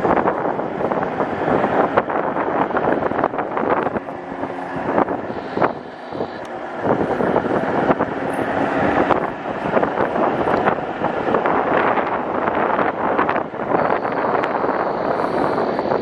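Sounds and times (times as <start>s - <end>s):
wind buffeting microphone: 0.0s - 16.0s
faint steady hum: 0.2s - 16.0s.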